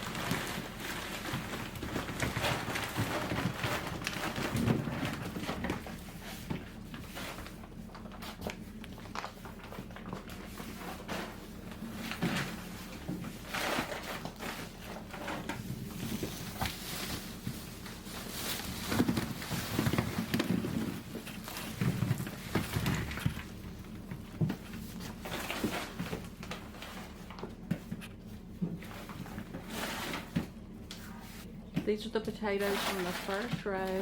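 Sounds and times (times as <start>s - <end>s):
potatoes rustling and knocking: 0.0s - 30.6s, 31.6s - 34.0s.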